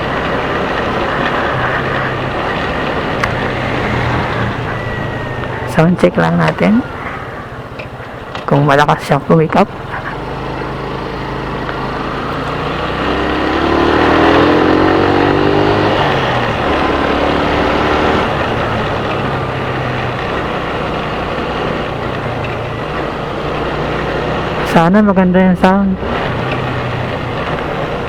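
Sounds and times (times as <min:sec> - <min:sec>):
motorcycle engine accelerating: 0:00.0 - 0:28.0
steady rushing noise: 0:00.0 - 0:28.0.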